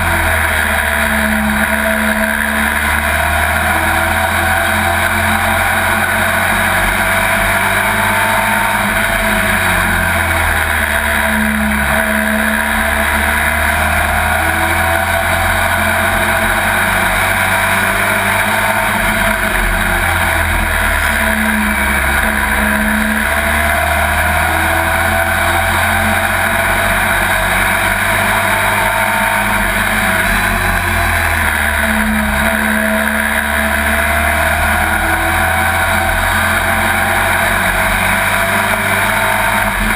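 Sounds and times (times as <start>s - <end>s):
truck engine running hard: 0.0s - 39.9s.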